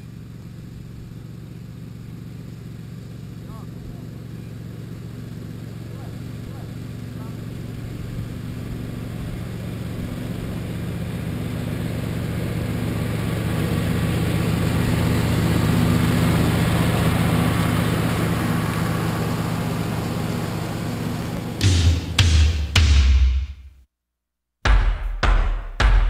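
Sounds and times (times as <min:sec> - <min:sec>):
riding lawn mower running: 0:00.0 - 0:22.8.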